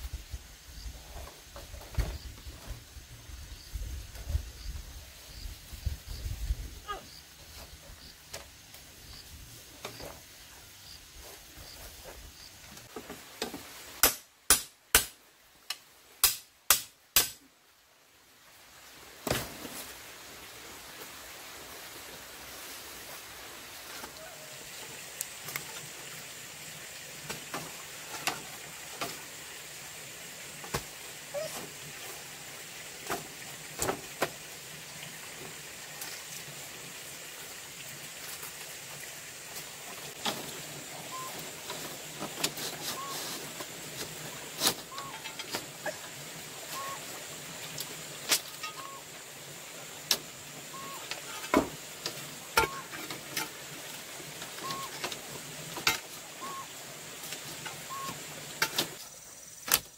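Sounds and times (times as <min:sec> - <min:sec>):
steady hiss: 0:00.0 - 0:59.9.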